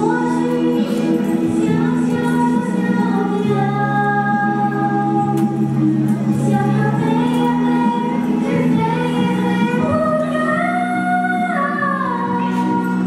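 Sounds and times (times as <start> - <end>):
backing music: 0.0 - 13.0.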